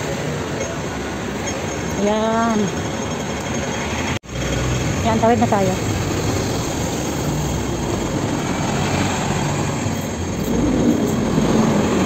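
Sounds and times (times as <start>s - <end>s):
busy street traffic: 0.0s - 12.0s.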